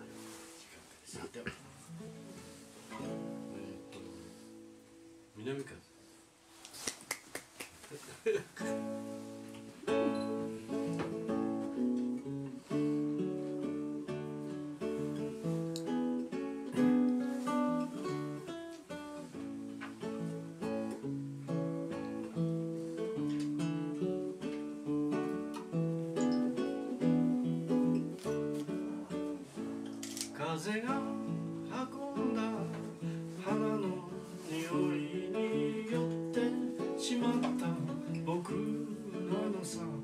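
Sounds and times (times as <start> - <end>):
fingerpicked classical guitar: 0.0 - 6.7, 8.5 - 40.0.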